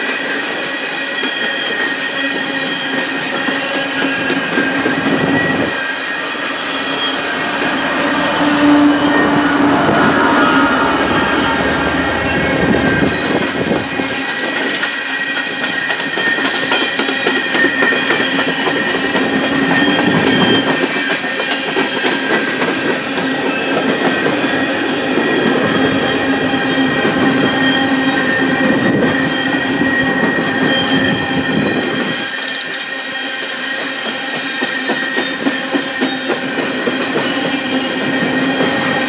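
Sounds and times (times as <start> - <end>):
high wheel squeal: 0.0 - 39.0
train wheels rumbling and clacking: 0.0 - 39.0.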